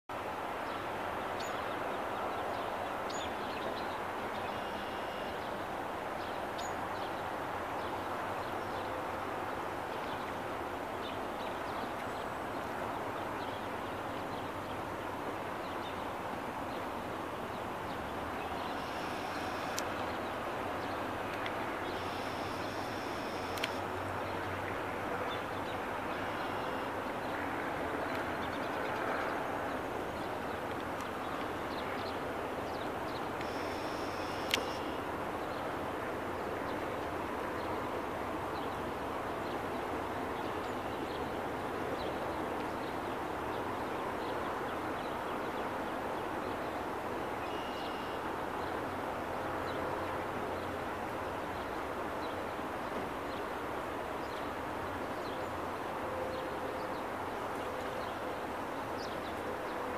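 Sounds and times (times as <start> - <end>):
river water rushing: 0.1 - 59.9.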